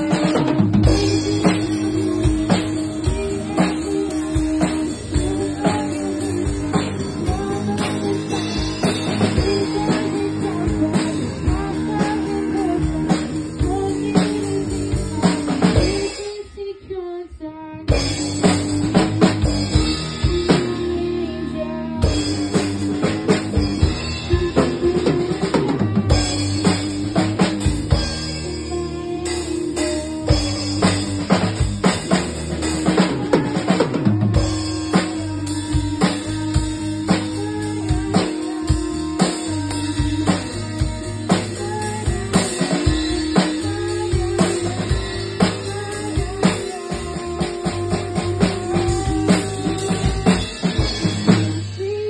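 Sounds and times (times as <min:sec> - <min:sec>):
drum kit beat: 0:00.0 - 0:16.8, 0:17.8 - 0:52.0
rock band playing: 0:00.0 - 0:52.0.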